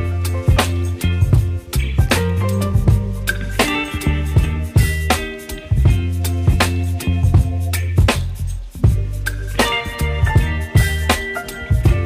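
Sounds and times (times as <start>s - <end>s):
funky pop music: 0.0s - 12.0s.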